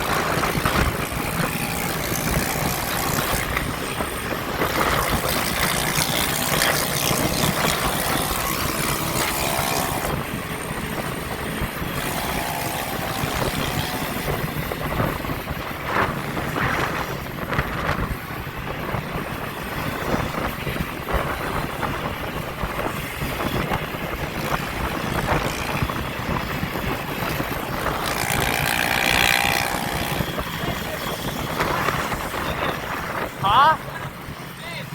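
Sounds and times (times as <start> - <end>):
motorbike engines running: 0.0 - 34.9
wind rushing over microphone: 0.0 - 34.9.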